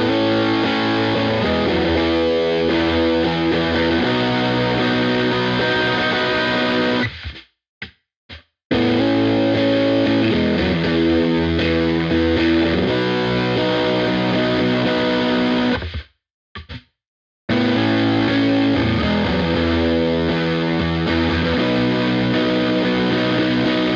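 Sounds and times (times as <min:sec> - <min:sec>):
distorted electric guitar chords: 0:00.0 - 0:07.4, 0:08.7 - 0:16.0, 0:17.5 - 0:23.9.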